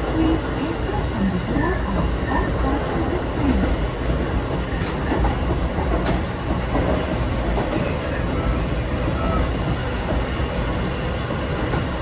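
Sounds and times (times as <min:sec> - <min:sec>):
railcar running rumble: 0:00.0 - 0:12.0.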